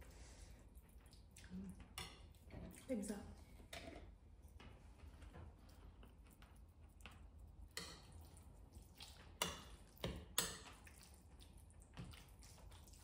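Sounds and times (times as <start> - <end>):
noodles stirred wet clicks: 0.6 - 13.0.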